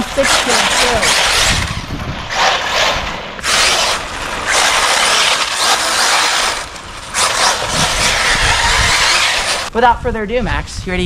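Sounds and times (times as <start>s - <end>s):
rc car motor whirring: 0.0s - 9.7s.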